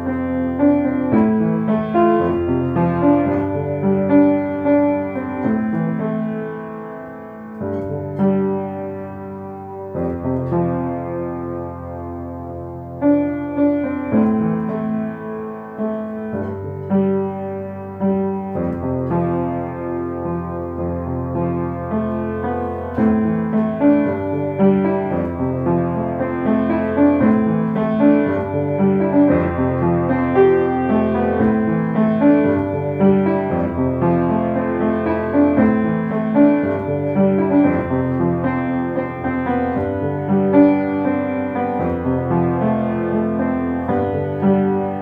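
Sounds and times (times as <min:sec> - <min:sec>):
solo piano piece: 0:00.0 - 0:45.0.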